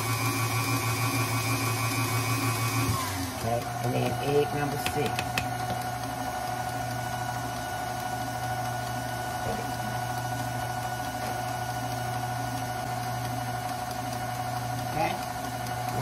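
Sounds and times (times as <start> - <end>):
stand mixer beating batter: 0.0 - 16.0.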